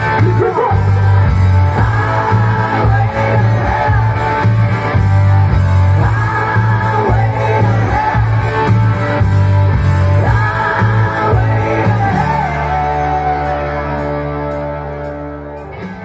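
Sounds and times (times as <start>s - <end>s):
rock music with singing and guitars: 0.0s - 16.0s.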